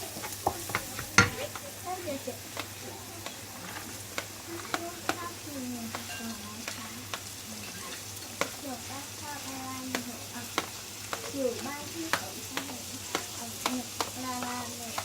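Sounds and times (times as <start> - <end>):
food sizzling in a pan: 0.0 - 15.0
spatula clicking against pan: 2.5 - 15.0.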